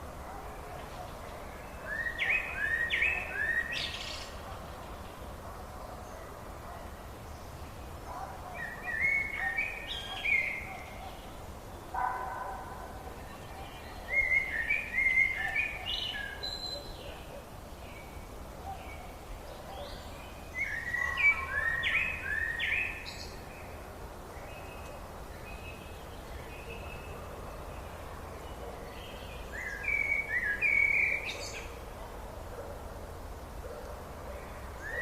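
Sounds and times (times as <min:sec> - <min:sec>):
low background noise: 0:00.0 - 0:35.0
songbird singing: 0:00.0 - 0:35.0.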